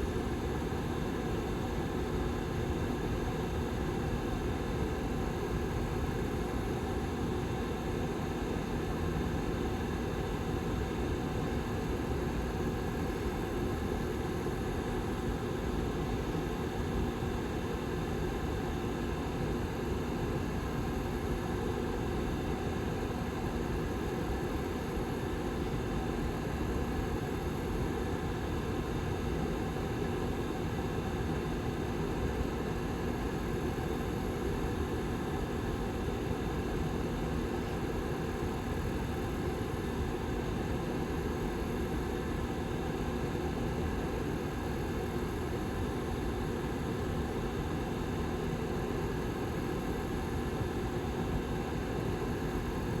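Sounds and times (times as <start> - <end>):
heater fan whirring: 0.0 - 53.0.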